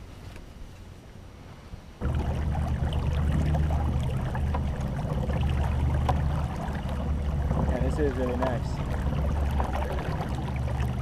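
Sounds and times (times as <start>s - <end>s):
electric motor humming: 2.0s - 11.0s
water splashing against hull: 2.0s - 11.0s.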